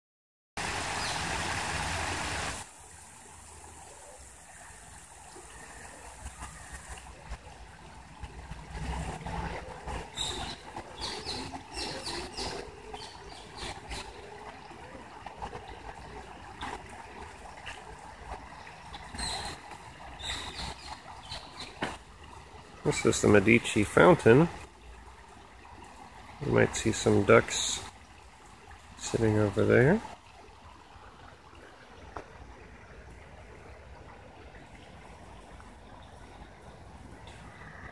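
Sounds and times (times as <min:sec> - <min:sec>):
fountain water trickling and splashing: 0:00.6 - 0:37.9.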